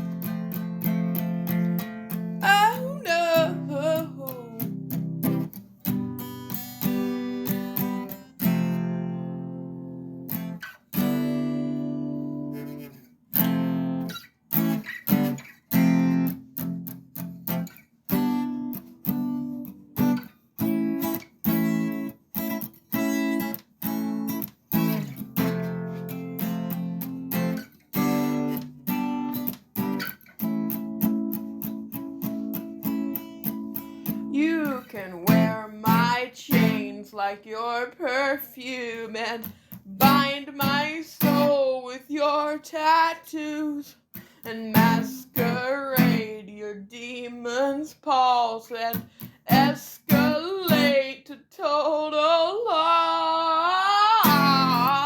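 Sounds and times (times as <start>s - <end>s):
acoustic guitar strumming: 0.0s - 37.3s, 38.0s - 41.7s, 44.2s - 46.4s, 48.9s - 51.1s, 53.7s - 55.0s.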